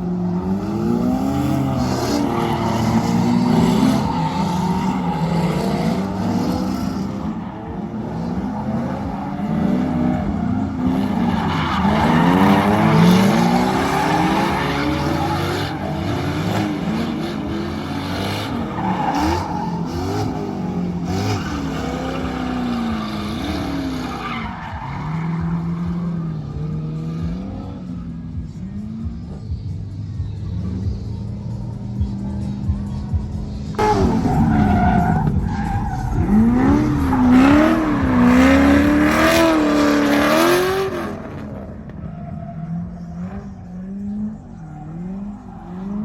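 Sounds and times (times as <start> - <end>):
car engines revving hard: 0.0 - 46.0.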